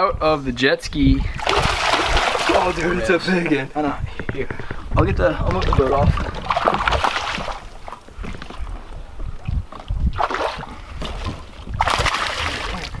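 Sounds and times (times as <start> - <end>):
gusty wind: 0.0 - 13.0
water noise: 1.0 - 13.0.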